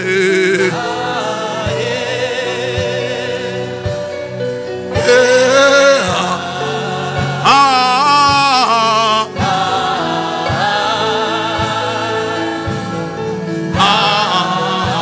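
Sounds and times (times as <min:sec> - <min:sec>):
gospel singing: 0:00.0 - 0:15.0.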